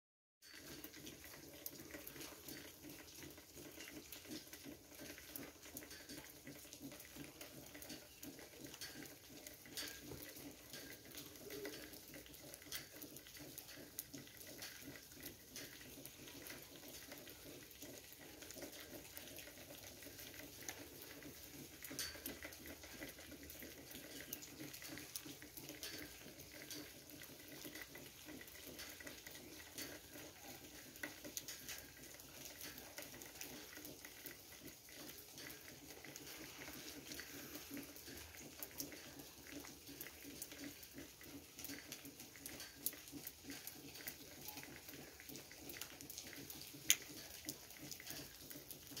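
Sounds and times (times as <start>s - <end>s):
running water trickling: 0.4s - 49.0s
small ticks and drips: 0.4s - 49.0s.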